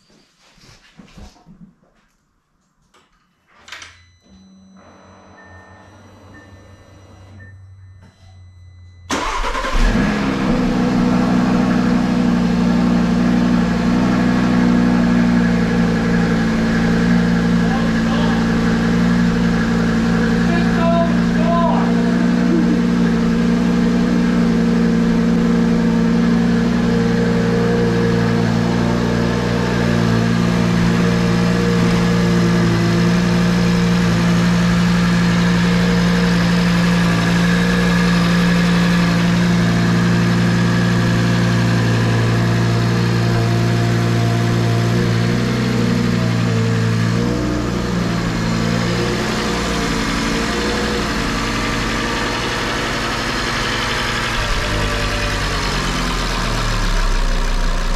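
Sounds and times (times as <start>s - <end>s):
car engine idling: 9.1s - 57.9s.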